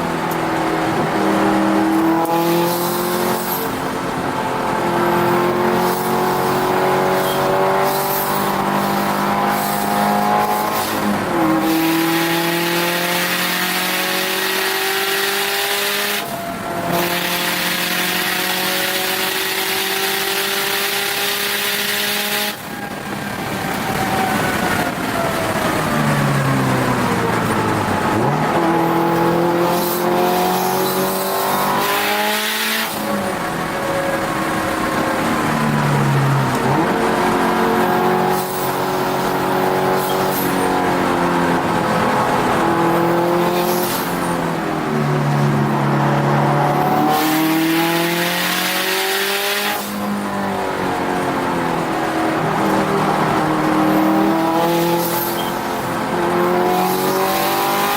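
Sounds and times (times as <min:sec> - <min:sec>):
car engine under full throttle: 0:00.0 - 0:57.9.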